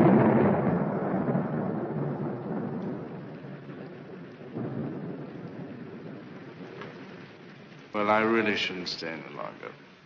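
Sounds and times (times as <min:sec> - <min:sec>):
rain: 0:00.0 - 0:10.0
thunder rumbling: 0:00.0 - 0:10.0.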